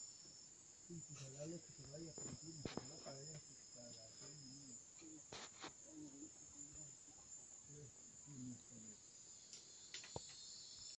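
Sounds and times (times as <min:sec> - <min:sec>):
crickets trilling: 0:00.0 - 0:11.0
lower insect trill: 0:00.0 - 0:11.0.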